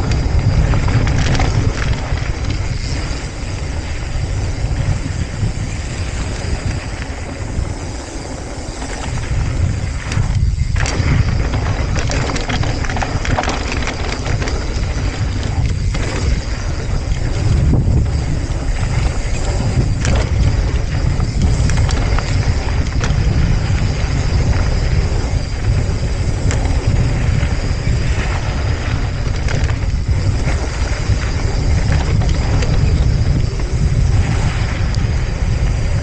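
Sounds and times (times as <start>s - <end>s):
bike rattling clicks: 0.0s - 36.0s
bike tyre roar: 0.0s - 36.0s
wind buffeting microphone: 0.0s - 36.0s.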